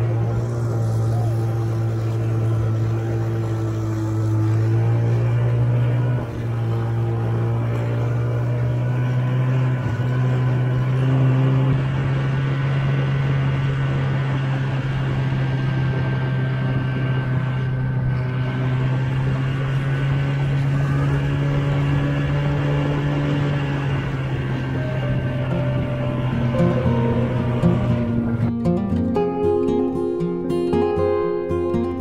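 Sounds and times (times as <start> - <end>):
snowmobile engine running: 0.0 - 28.7.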